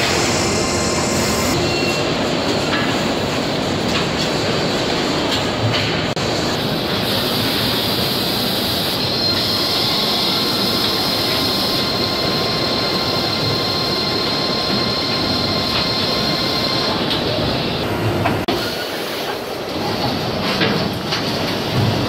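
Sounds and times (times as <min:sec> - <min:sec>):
injection moulding machines running: 0:00.0 - 0:22.0.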